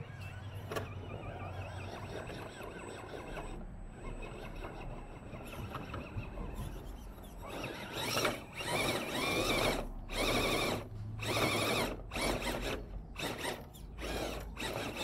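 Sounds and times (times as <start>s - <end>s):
rc car motor whirring: 0.0s - 15.0s.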